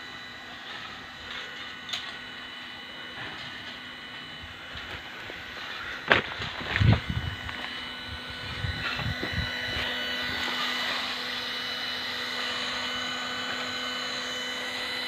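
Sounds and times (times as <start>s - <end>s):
small motor hum with whine: 0.0s - 15.0s.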